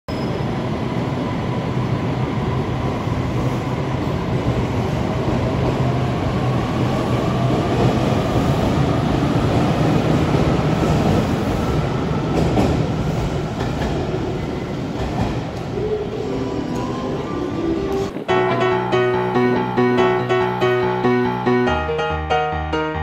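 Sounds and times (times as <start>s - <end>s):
electric train rumbling: 0.1s - 23.0s.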